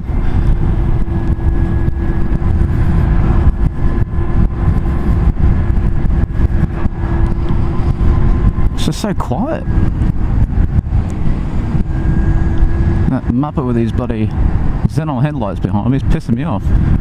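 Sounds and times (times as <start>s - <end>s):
electric motorcycle hum: 0.0s - 17.0s
wind rushing over microphone: 0.0s - 17.0s.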